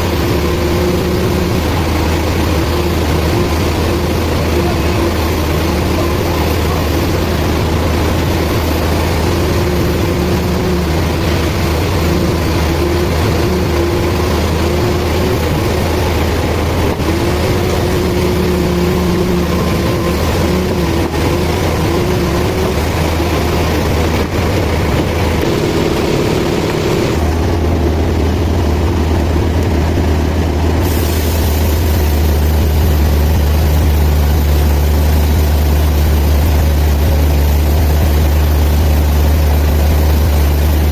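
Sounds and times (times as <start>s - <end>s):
sawmill machine drone: 0.0s - 40.9s.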